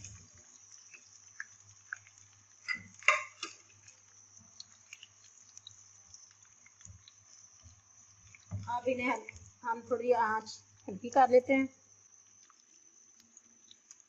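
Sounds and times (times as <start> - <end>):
potatoes sizzling in a pan: 0.0 - 14.0.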